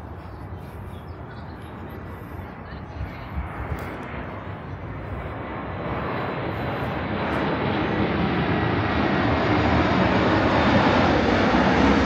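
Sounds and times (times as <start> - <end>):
jet airliner flying overhead: 0.0 - 12.0.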